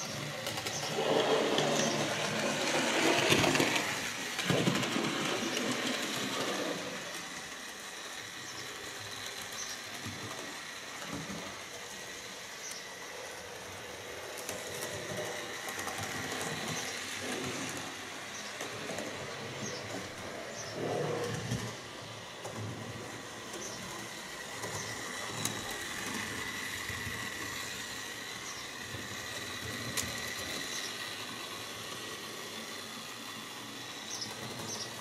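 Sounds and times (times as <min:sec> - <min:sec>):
small electric motors whirring: 0:00.0 - 0:35.0
wheels rattling on rails: 0:00.0 - 0:35.0.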